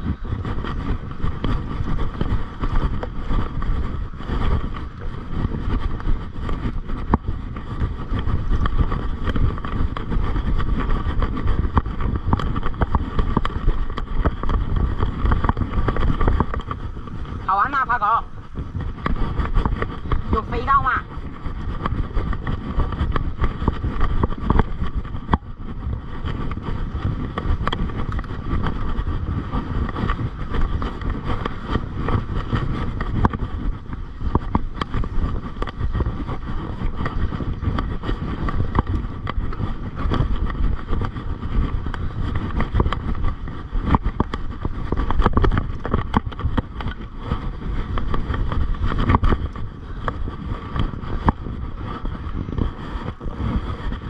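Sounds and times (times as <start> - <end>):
bike rattling over bumps: 0.0 - 54.0
wind and riding noise: 0.0 - 54.0.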